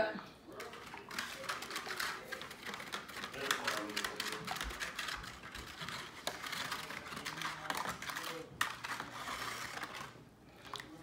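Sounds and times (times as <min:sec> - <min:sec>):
brush dabbing glaze in foil pan: 0:00.5 - 0:11.0.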